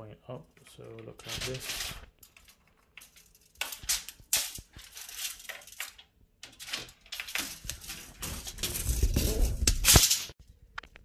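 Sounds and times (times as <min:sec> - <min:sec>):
tape measure scraping and rattling: 0:00.9 - 0:10.4.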